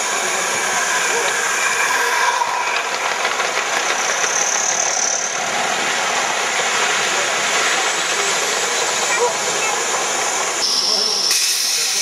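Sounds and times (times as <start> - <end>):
steam hiss: 0.0 - 12.0.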